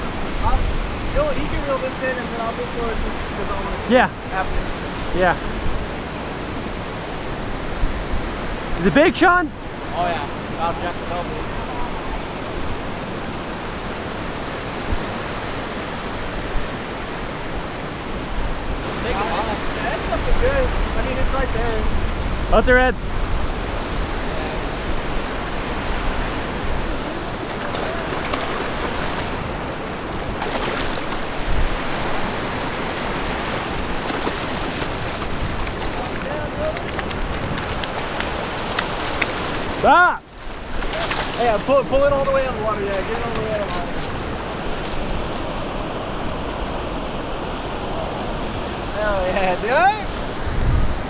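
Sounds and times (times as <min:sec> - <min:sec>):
wind rumble on microphone: 0:00.0 - 0:49.0, 0:50.1 - 0:51.0
surf breaking on a beach: 0:00.0 - 0:51.0.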